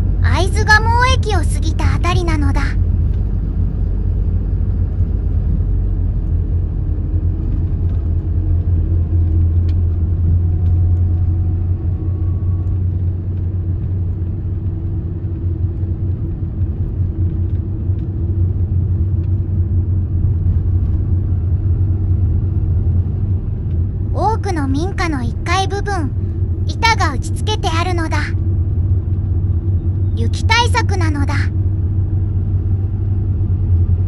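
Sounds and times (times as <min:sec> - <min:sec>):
vehicle engine and tyre rumble: 0:00.0 - 0:34.0.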